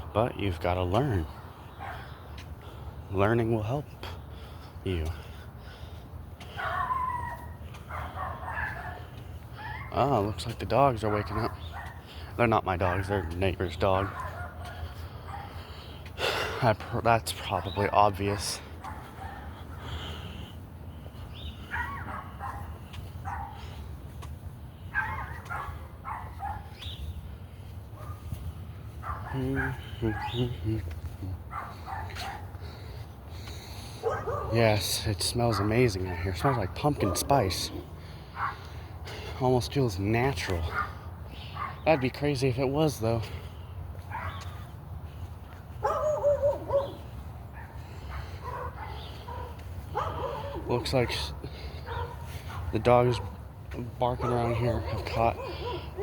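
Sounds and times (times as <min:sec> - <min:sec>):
dogs barking: 0:00.1 - 0:56.0.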